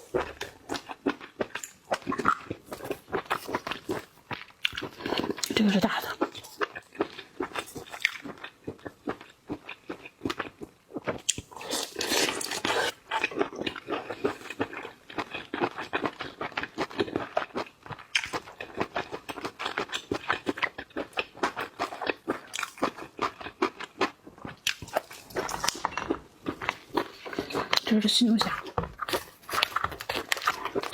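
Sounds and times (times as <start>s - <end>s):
shellfish crunching and chewing: 0.0s - 30.9s.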